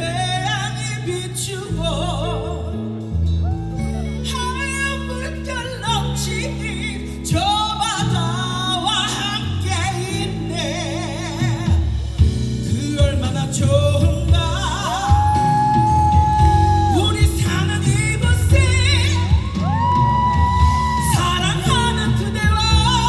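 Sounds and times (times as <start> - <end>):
woman singing with vibrato: 0.0 - 23.0
live rock band: 2.5 - 23.0.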